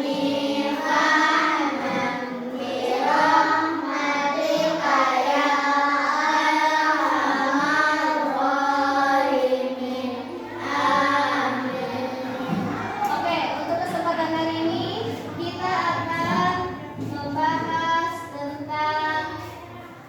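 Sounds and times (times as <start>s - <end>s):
children chanting in unison: 0.0s - 13.6s, 15.1s - 20.0s.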